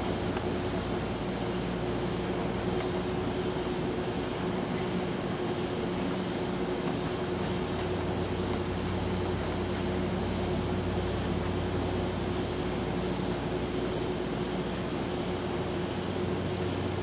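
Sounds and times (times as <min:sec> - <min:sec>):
railway station low hum: 0:00.0 - 0:17.0.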